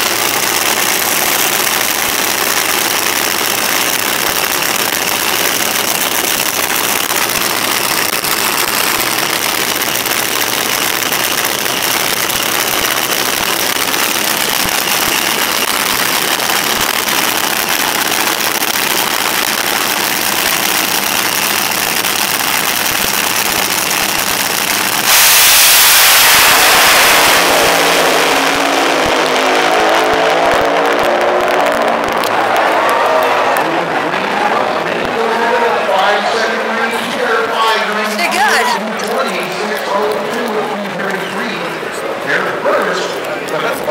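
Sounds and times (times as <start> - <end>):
dragster engine roaring: 0.0 - 43.9.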